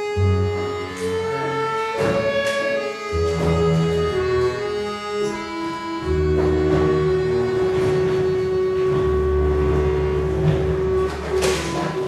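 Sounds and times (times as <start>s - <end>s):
low bass notes: 0.0s - 12.0s
orchestra holding notes: 0.0s - 12.0s.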